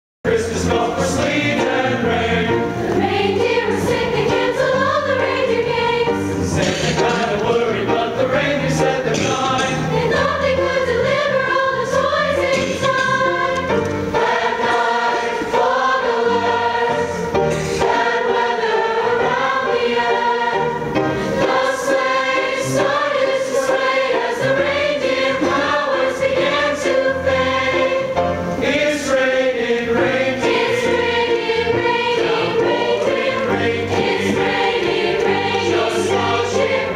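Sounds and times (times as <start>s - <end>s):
choir singing: 0.3s - 36.9s.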